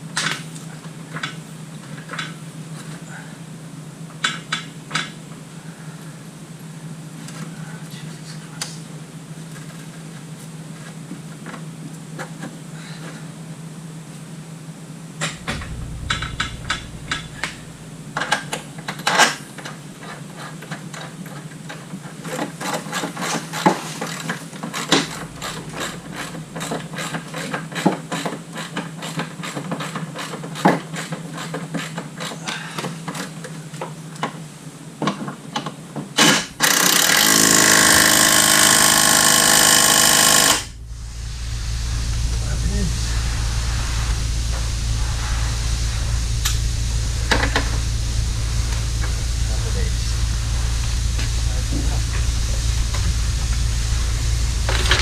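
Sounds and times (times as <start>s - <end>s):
steady low hum: 0.0s - 22.6s, 23.9s - 28.6s, 36.2s - 55.0s.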